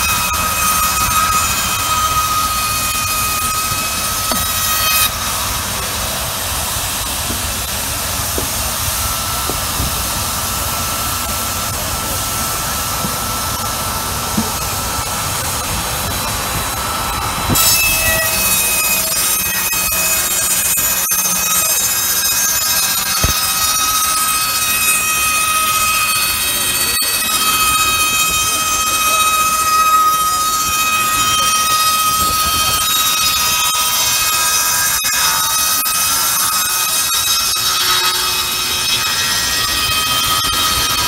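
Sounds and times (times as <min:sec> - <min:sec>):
circular saw blade whining: 0:00.0 - 0:41.0
saw blade cutting through timber: 0:00.0 - 0:41.0.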